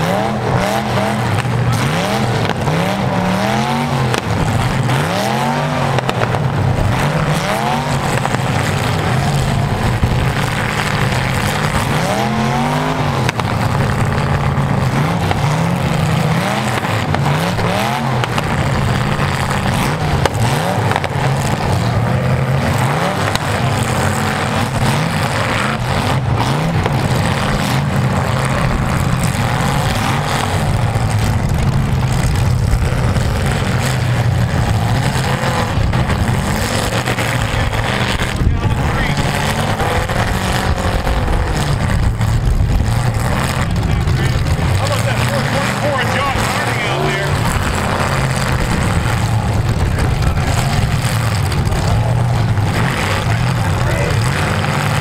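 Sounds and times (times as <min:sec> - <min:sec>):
car engines revving hard: 0:00.0 - 0:55.0
wheels spinning in mud: 0:00.0 - 0:55.0.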